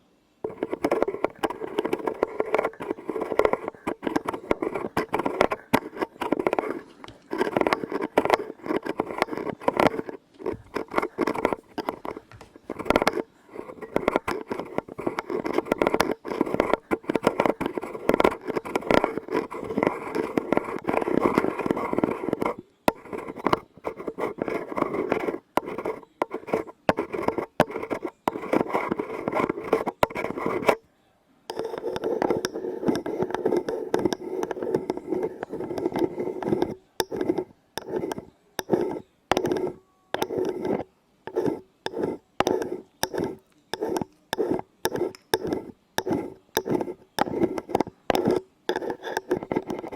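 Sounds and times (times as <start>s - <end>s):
tapping and scratching on objects: 0.4s - 30.9s, 31.5s - 49.9s.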